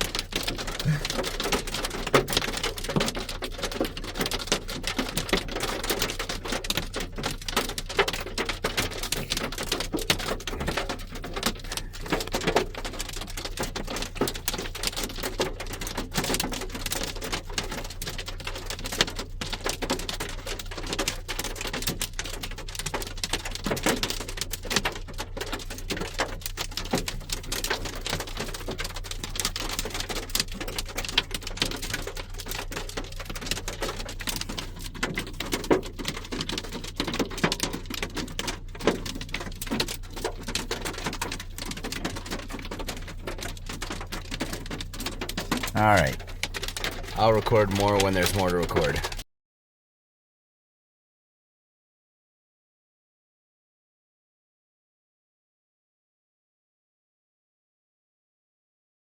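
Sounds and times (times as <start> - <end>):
hail pelting car roof: 0.0 - 49.2.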